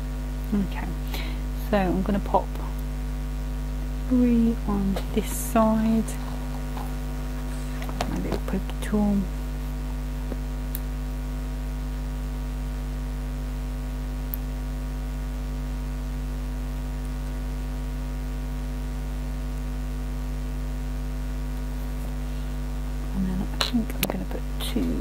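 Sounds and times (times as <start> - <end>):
mains hum: 0.0 - 25.0.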